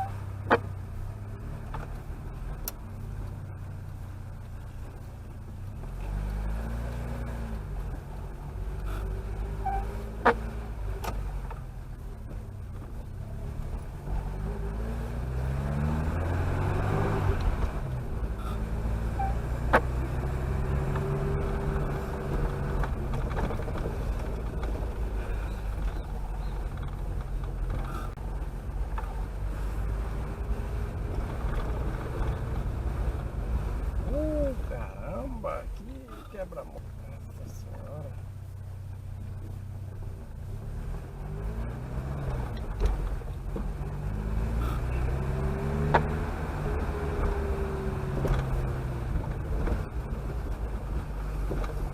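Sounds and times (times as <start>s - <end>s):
car engine accelerating: 0.0s - 51.9s
road noise: 0.0s - 51.9s.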